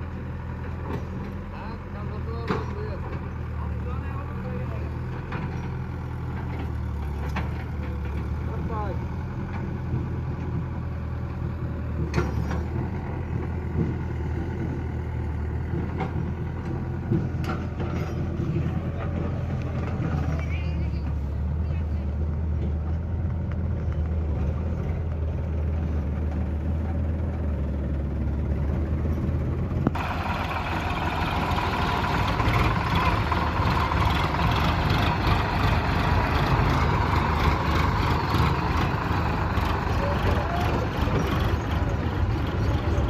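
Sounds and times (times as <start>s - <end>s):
diesel engine droning: 0.0s - 43.0s
engine working under load: 0.0s - 43.0s.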